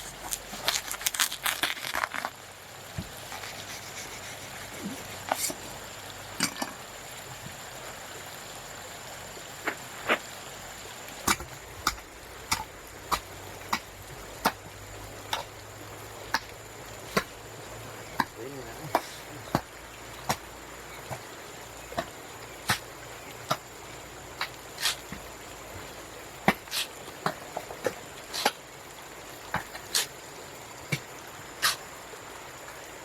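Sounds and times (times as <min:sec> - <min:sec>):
steady background hiss: 0:00.0 - 0:33.0.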